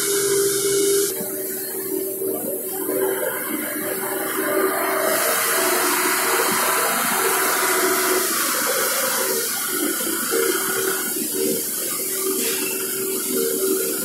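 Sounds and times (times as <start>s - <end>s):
hydraulic hiss: 0.0s - 1.2s, 2.0s - 14.0s
forklift engine and pump hum: 0.0s - 14.0s.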